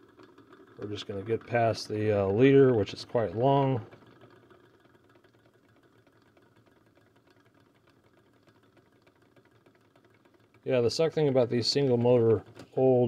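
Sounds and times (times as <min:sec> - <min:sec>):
fast fine ticking: 0:00.0 - 0:13.0
tape deck motor hum: 0:00.0 - 0:13.0.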